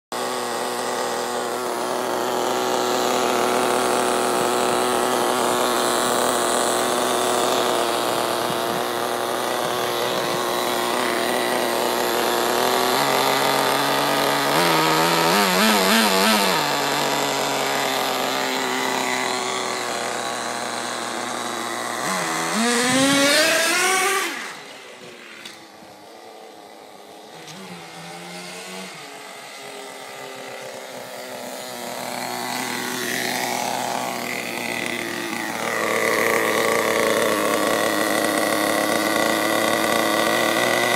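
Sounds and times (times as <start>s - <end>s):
small model engine revving: 0.1s - 40.9s.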